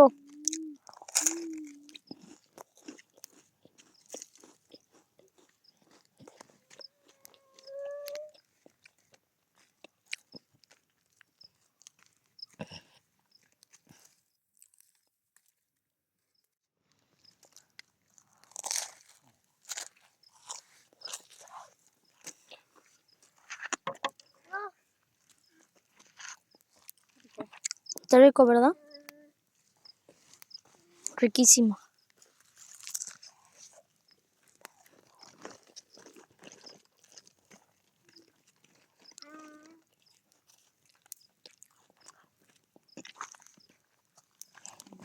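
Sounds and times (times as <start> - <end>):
crunchy chewing of cookies: 0.0 - 15.6, 16.9 - 28.1, 29.0 - 45.0.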